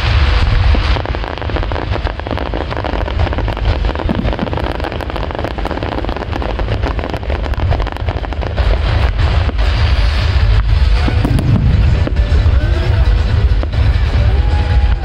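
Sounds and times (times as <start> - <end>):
fireworks crackling: 0.0 - 15.0
low rumble: 0.0 - 15.0.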